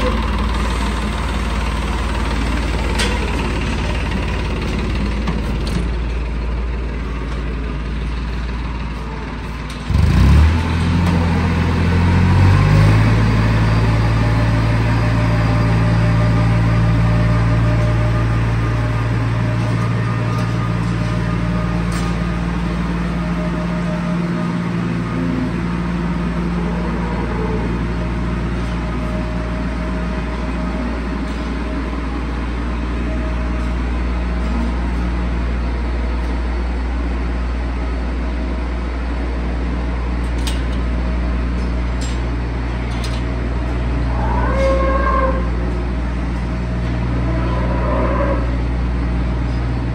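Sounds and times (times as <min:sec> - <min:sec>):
tractor engine droning: 0:00.0 - 0:49.9.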